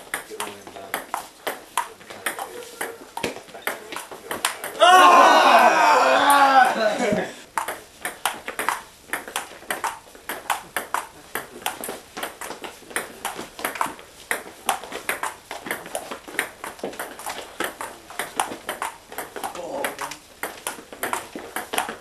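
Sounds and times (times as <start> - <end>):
table tennis ball hitting paddles: 0.0 - 4.8, 7.5 - 22.0.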